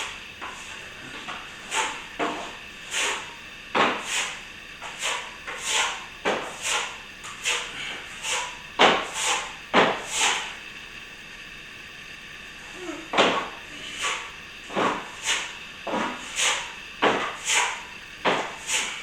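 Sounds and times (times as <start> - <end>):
trowel scraping plaster: 0.0 - 10.6, 13.3 - 19.0.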